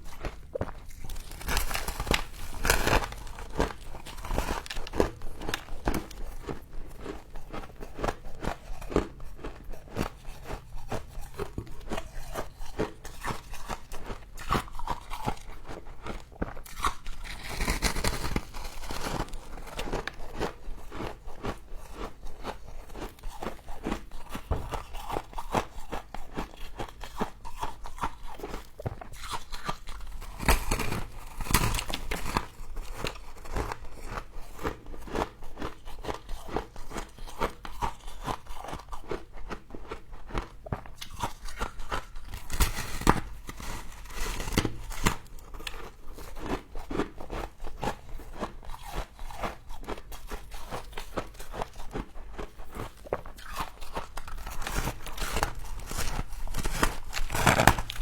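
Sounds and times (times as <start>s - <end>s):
frost crunching while chewed: 0.0s - 58.0s.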